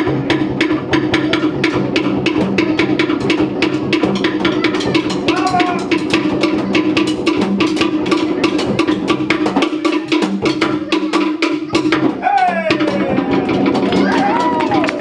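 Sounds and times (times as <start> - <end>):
rapid wooden drum strikes: 0.0 - 15.0.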